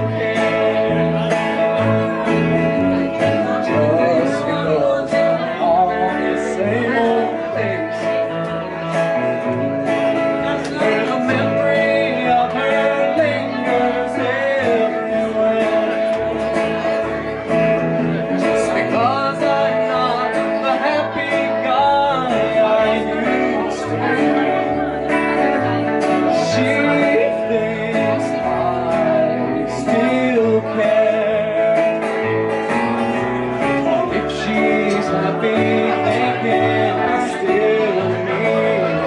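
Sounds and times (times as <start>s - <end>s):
man singing: 0.0s - 39.0s
strummed acoustic guitar: 0.0s - 39.0s
upright bass: 0.0s - 39.0s.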